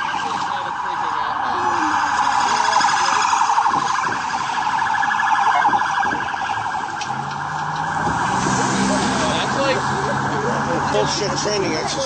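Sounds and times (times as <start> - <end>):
police siren warbling: 0.0 - 12.0.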